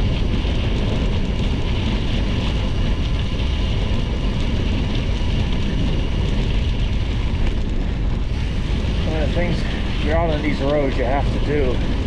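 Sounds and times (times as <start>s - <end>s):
tyres rolling on gravel: 0.0s - 12.0s
wind rushing over microphone: 0.0s - 12.0s.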